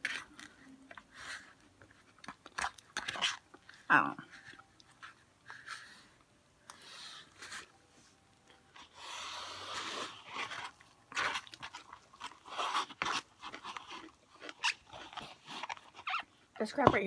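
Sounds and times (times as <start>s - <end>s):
crunchy food being chewed: 0.0s - 6.0s, 8.5s - 16.5s.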